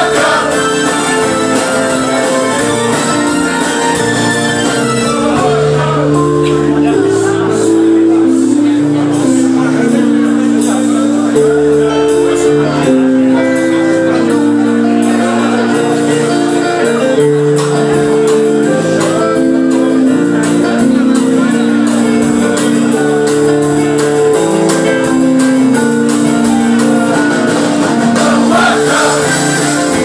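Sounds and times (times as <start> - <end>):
drums with cymbal beat: 0.0 - 5.8, 9.2 - 30.0
electric bass: 0.0 - 30.0
keyboard chords: 0.0 - 30.0.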